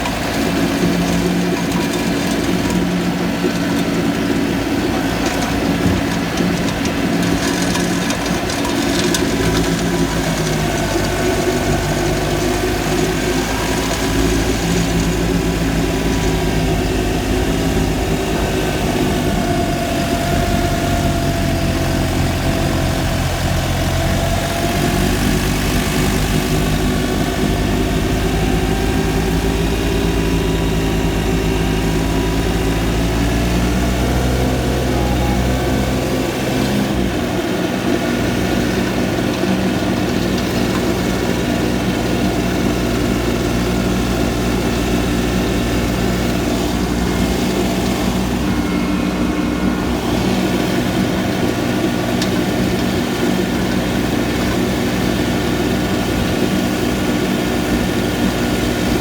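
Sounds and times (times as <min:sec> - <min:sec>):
tractor diesel engine at high revs: 0:00.0 - 0:59.0.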